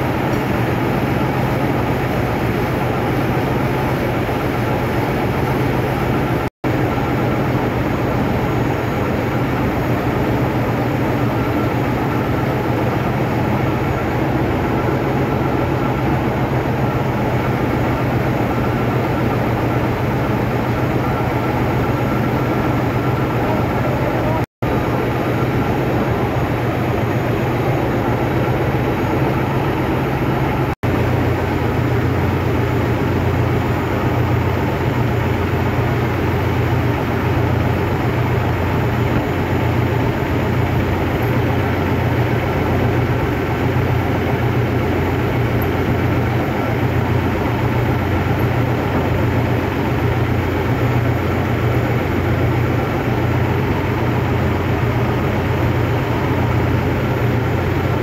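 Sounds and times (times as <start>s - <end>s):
heavy engine machinery drone: 0.0s - 58.0s.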